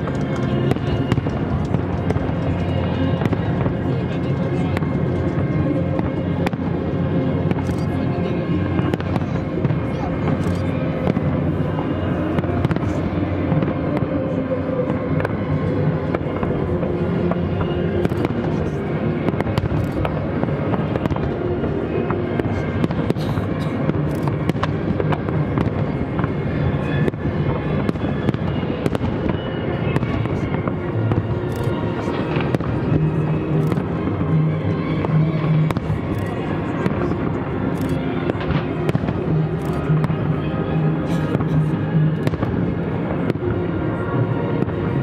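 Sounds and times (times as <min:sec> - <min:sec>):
fireworks bangs and crackles: 0:00.0 - 0:45.0
music playing: 0:00.0 - 0:45.0.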